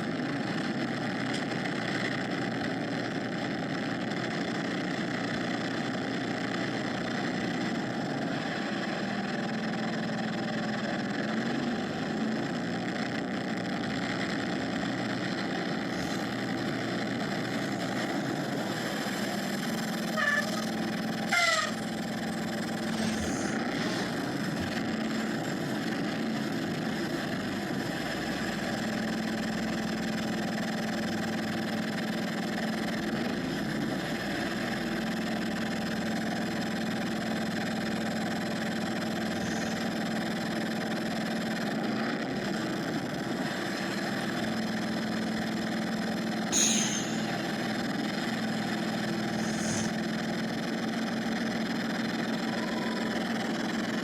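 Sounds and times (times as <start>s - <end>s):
diesel bus engine droning: 0.0s - 54.0s.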